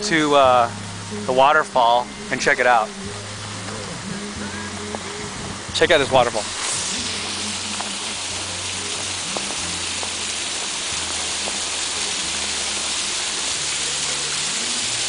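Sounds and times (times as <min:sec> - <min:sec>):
low hum: 0:00.0 - 0:13.1
waterfall rushing: 0:00.0 - 0:15.0.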